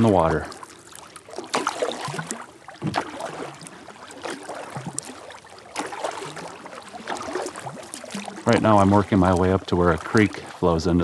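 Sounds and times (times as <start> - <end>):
kayak paddle strokes in water: 0.0 - 11.0
water dripping off paddle: 0.0 - 11.0.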